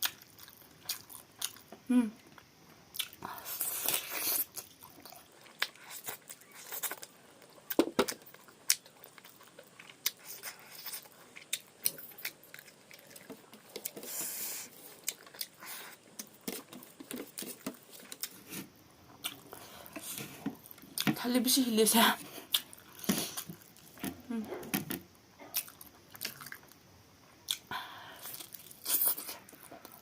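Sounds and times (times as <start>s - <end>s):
person chewing: 0.0s - 21.1s, 22.4s - 24.8s, 25.4s - 26.8s, 27.5s - 30.0s.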